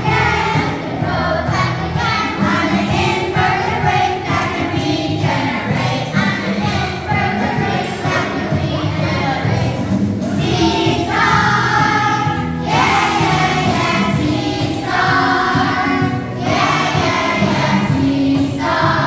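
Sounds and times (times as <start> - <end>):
children singing together: 0.0 - 19.0
instrumental accompaniment: 0.0 - 19.0.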